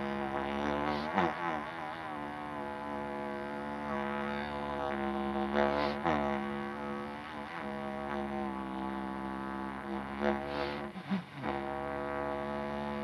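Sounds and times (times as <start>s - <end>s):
didgeridoo drone: 0.0s - 13.0s.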